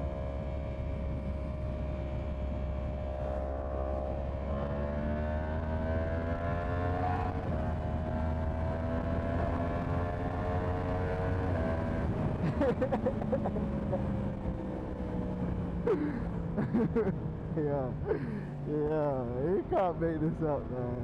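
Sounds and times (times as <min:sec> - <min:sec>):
low wind rush: 0:00.0 - 0:21.0
motorcycle engine accelerating: 0:00.0 - 0:21.0.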